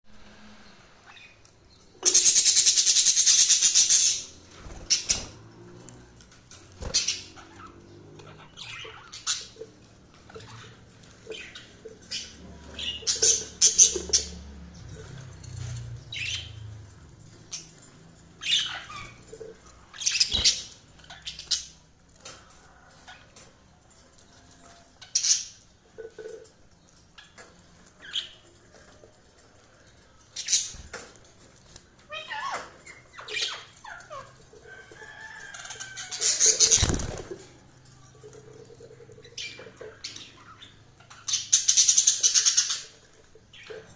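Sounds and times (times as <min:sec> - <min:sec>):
budgerigars chirping and squawking: 0:01.0 - 0:05.6, 0:06.2 - 0:37.6, 0:38.2 - 0:43.9.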